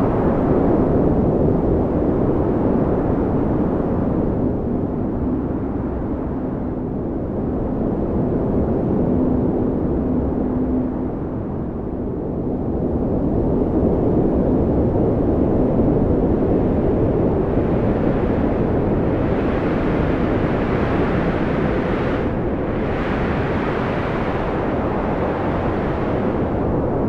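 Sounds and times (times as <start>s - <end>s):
strong wind blowing: 0.0s - 27.0s.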